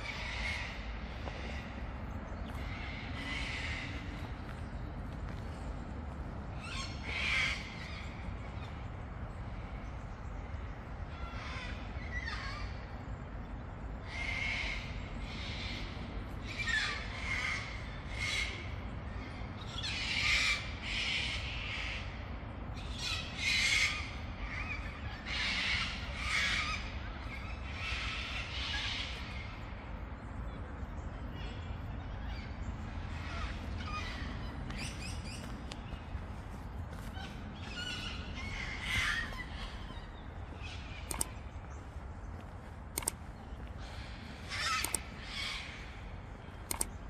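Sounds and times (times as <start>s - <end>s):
birds giving harsh calls: 0.0s - 30.3s, 31.2s - 47.0s
low background rumble: 0.0s - 47.0s.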